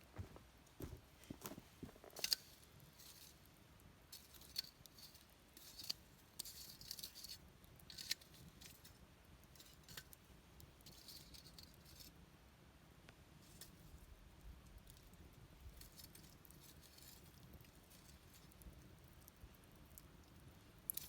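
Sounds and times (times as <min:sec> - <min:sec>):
campfire crackling: 0:00.1 - 0:21.0.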